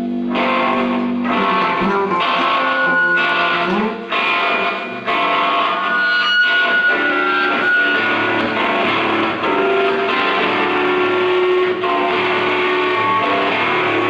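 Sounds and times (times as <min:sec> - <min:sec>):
live band with electric guitars: 0:00.0 - 0:14.0.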